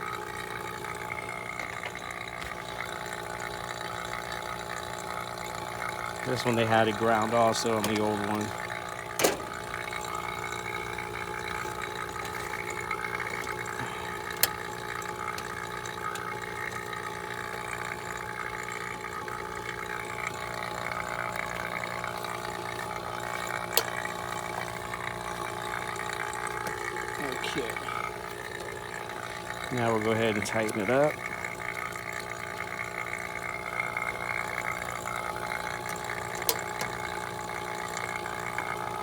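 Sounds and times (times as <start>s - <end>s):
vacuum pump humming: 0.0s - 39.0s.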